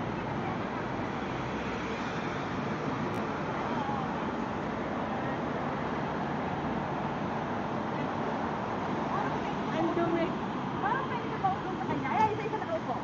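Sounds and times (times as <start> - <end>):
faint voices of passersby: 0.0 - 13.0
road traffic hum: 0.0 - 13.0.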